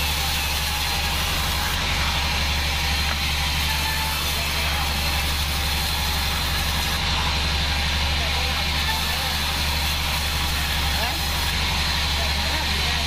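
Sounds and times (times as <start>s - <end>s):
band sawmill running: 0.0s - 13.0s.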